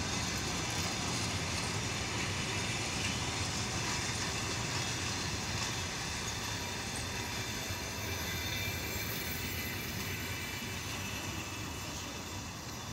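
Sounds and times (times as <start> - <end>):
train wheels rumbling on rail: 0.0 - 12.9.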